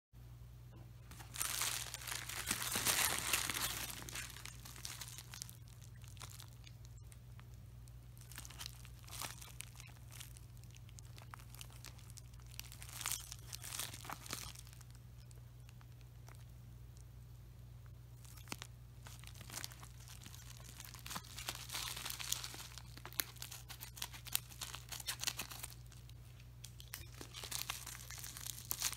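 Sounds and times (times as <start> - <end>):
steady low hum: 0.2 - 28.9
plastic packaging crinkling: 1.0 - 16.5, 18.2 - 28.9.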